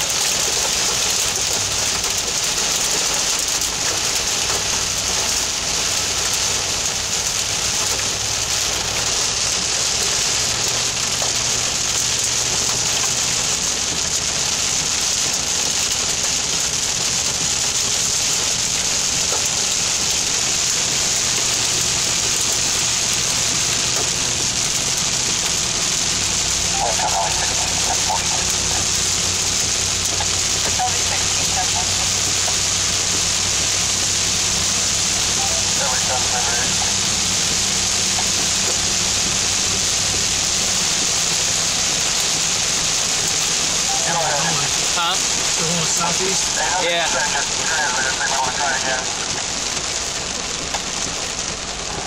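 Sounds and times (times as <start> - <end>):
heavy rain on car windshield: 0.0 - 52.0.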